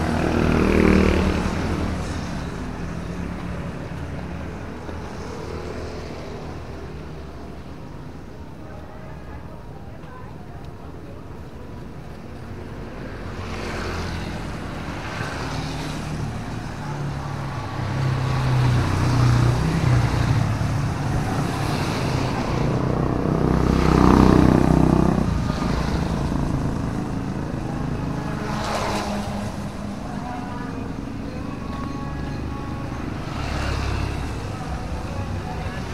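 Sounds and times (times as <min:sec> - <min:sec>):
vehicle engines passing: 0:00.0 - 0:35.9.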